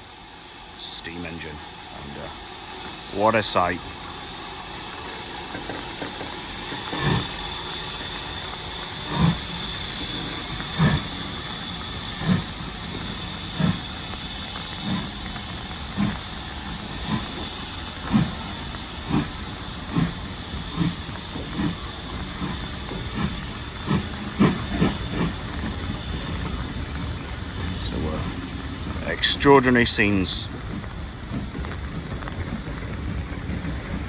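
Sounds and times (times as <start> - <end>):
locomotive exhaust chuffs: 0.0 - 34.0
steam locomotive hissing: 0.0 - 34.0.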